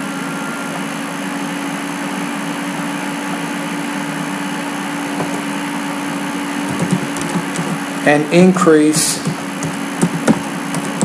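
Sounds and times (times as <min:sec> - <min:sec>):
steady hum and hiss: 0:00.0 - 0:11.0.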